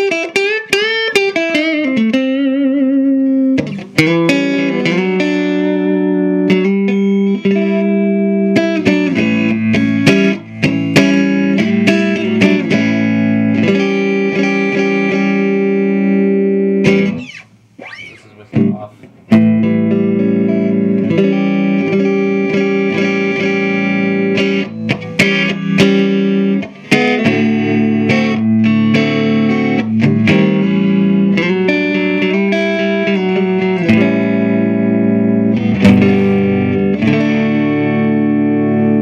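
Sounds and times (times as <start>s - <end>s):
electric guitar chords strummed: 0.0s - 39.0s.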